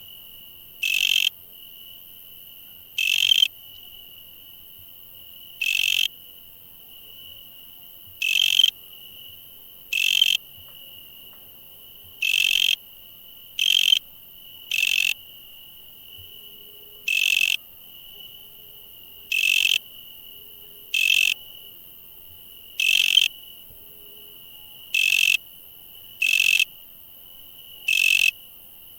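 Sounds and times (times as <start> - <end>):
high-pitched insect trill: 0.8 - 1.9, 3.0 - 4.6, 5.3 - 28.9.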